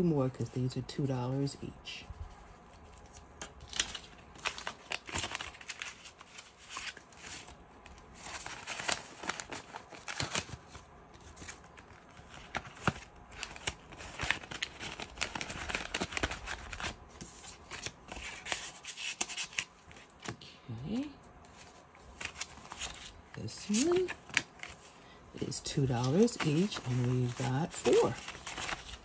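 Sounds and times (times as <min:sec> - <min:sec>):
banknotes and plastic rustling: 0:00.0 - 0:29.0.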